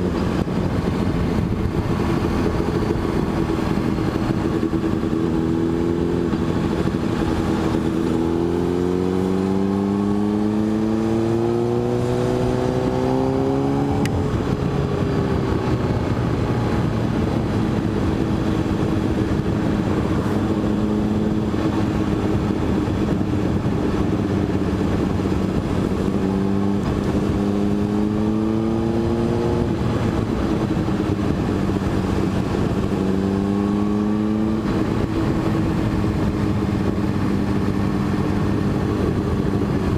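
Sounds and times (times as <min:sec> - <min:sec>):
motorcycle engine accelerating: 0:00.0 - 0:39.9
steady rushing noise: 0:00.0 - 0:39.9.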